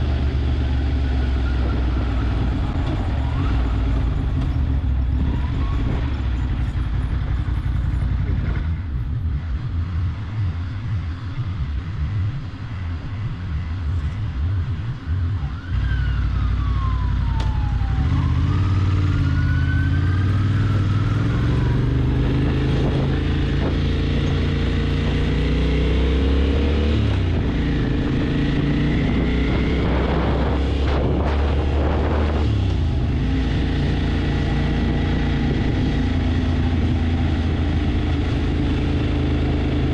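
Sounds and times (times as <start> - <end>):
motorcycle engine revving: 0.0 - 39.9
wind rumble: 0.0 - 39.9.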